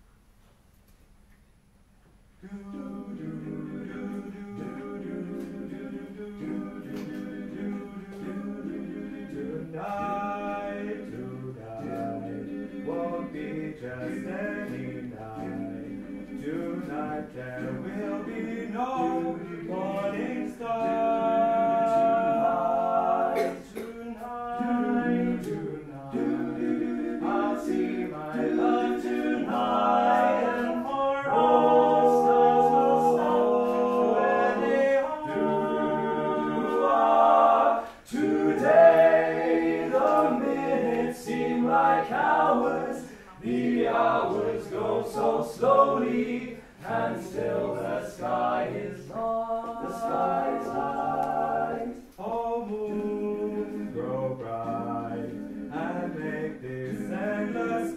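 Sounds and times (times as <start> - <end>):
voices singing a cappella: 2.4 - 57.9.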